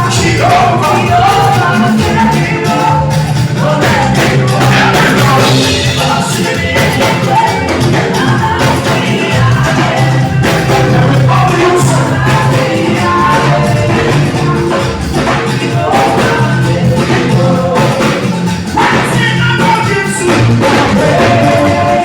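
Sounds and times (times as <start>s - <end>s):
bass line: 0.0s - 22.0s
drum beats: 0.0s - 22.0s
live band playing: 0.0s - 22.0s
person singing: 0.0s - 22.0s.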